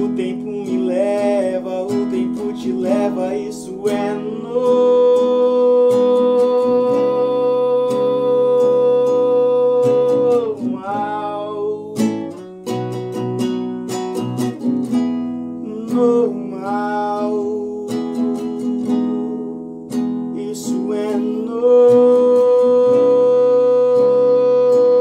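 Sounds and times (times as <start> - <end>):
man singing: 0.0 - 12.9, 15.5 - 25.0
plucked classical guitar: 0.0 - 25.0.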